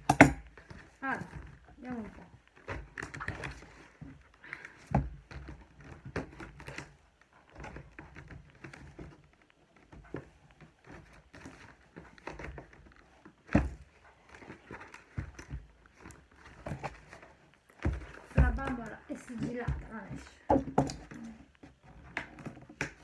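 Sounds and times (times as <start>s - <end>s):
cardboard box rustling and scraping: 0.7s - 23.0s.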